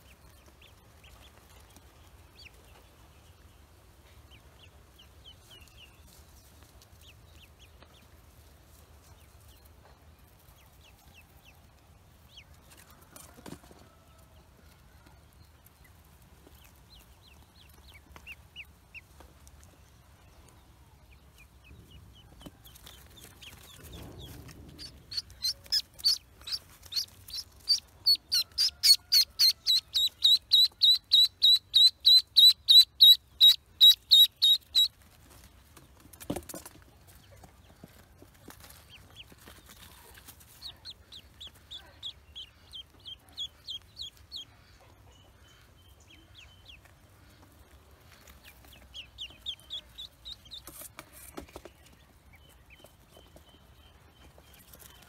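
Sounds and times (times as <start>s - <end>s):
ducklings peeping: 0.0s - 12.9s, 15.4s - 55.0s.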